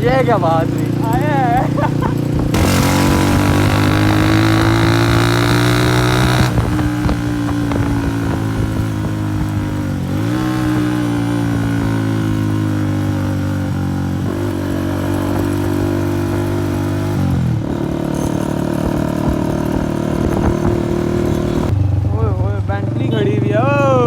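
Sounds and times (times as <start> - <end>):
loud motorcycle engine: 0.0 - 24.0.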